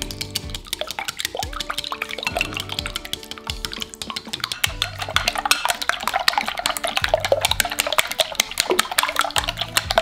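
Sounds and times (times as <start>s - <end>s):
chopsticks clicking against glass bowl: 0.0s - 10.0s
egg sloshing: 0.0s - 10.0s.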